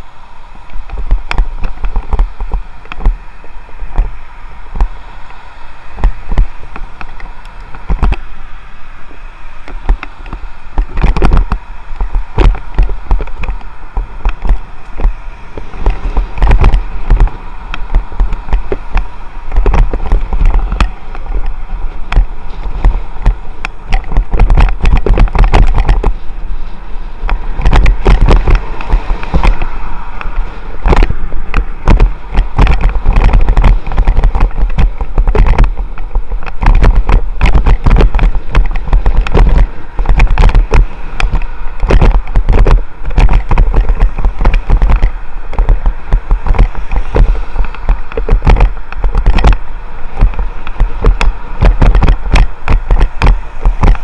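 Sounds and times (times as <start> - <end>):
passing traffic: 0.0 - 54.0
wind buffeting a microphone: 0.0 - 54.0.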